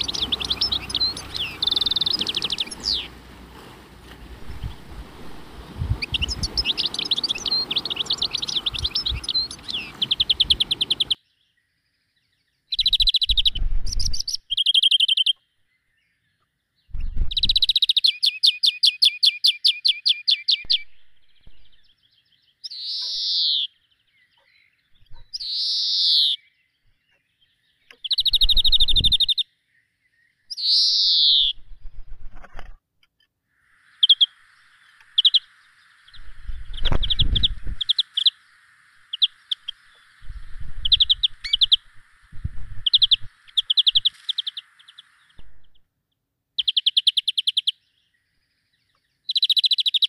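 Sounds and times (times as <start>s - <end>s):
songbirds singing: 0.0s - 31.8s, 33.2s - 50.0s.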